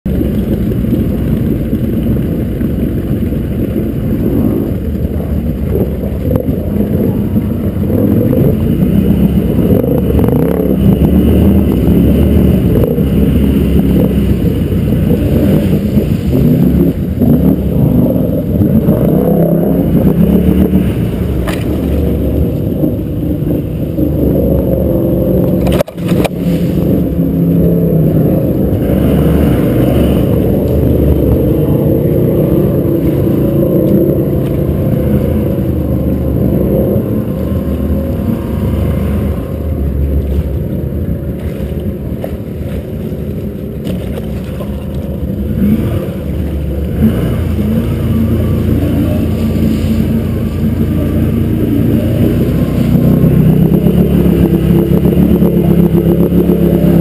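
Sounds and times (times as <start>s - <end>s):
atv engine running through water: 0.0s - 57.0s.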